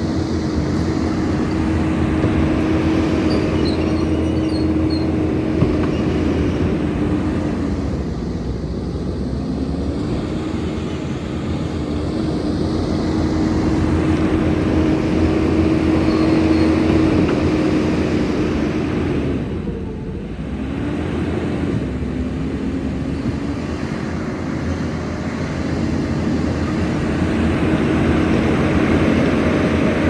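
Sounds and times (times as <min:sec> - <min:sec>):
diesel engine at high revs: 0:00.0 - 0:30.0.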